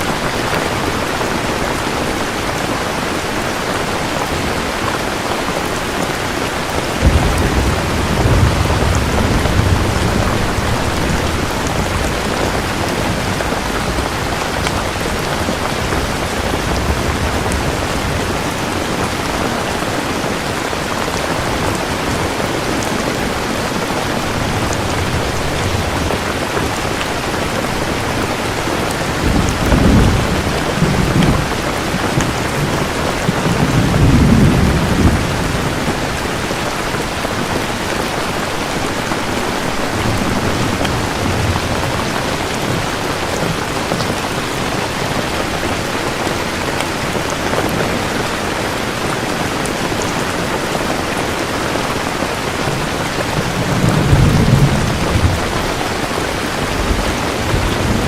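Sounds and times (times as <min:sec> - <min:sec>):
heavy rain falling: 0:00.0 - 0:58.0
low thunder rumbling: 0:06.8 - 0:48.2, 0:52.5 - 0:58.0.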